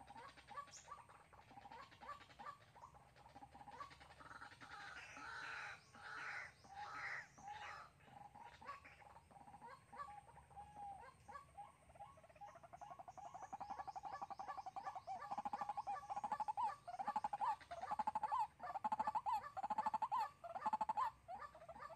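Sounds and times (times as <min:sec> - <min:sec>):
waterhen calling: 0:00.0 - 0:21.9.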